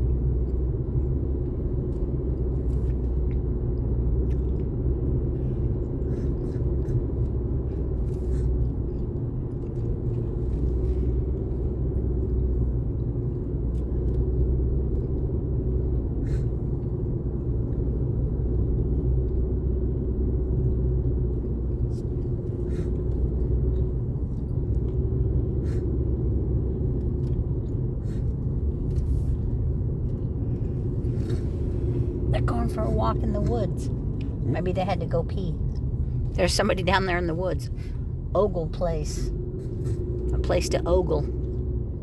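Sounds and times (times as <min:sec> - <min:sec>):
constant hum: 0:00.0 - 0:42.0
vehicle rumble from inside cabin: 0:00.0 - 0:42.0.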